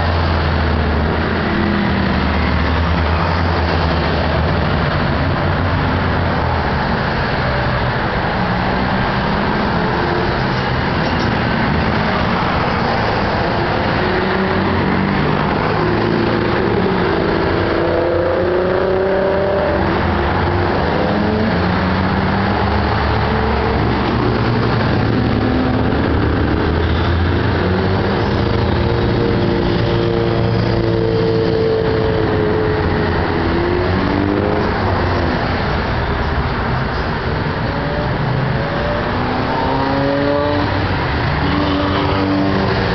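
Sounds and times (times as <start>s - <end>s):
car engines passing: 0.0s - 42.9s
traffic roar: 0.0s - 42.9s.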